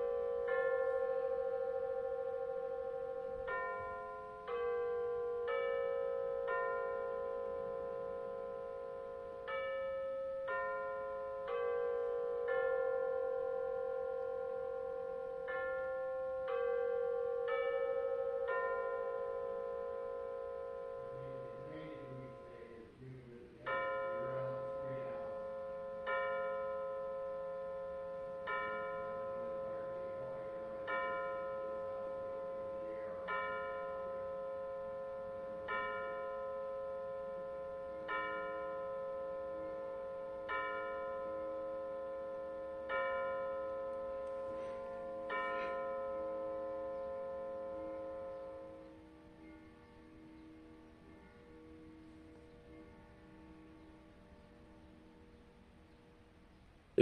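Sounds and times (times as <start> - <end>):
clock striking bell-like strokes: 0.0 - 22.8, 23.6 - 54.0
clock chime tune: 0.0 - 22.9, 23.6 - 54.0.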